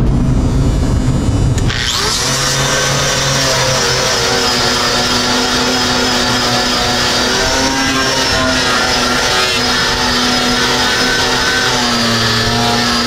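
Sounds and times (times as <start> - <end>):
angle grinder on steel: 1.6 - 13.0.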